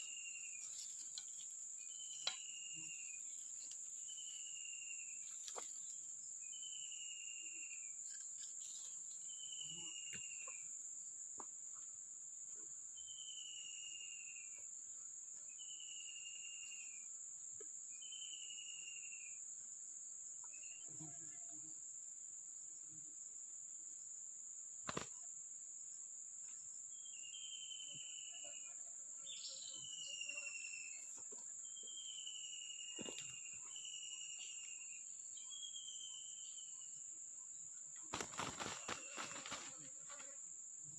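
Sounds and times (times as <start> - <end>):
insect drone of crickets: 0.0 - 40.9.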